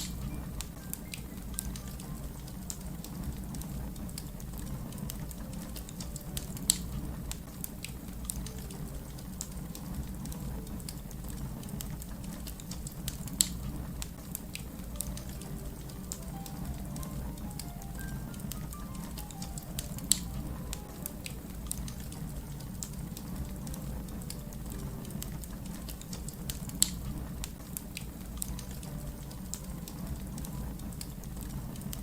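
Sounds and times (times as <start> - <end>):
fire popping: 0.0 - 32.0
wood fire crackling: 0.0 - 32.0.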